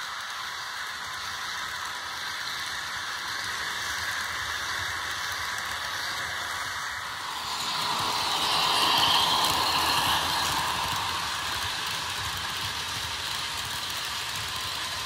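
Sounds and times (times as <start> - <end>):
model locomotive hissing rush: 0.0 - 15.0.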